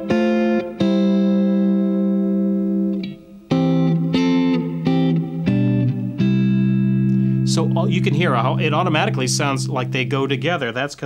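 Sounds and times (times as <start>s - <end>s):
clean electric guitar chords: 0.0s - 10.8s.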